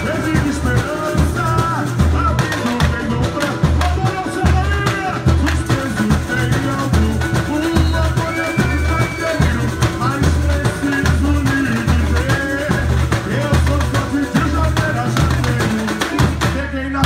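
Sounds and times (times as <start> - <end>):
deep bass drums beating: 0.0 - 17.0
light samba percussion: 0.0 - 17.0.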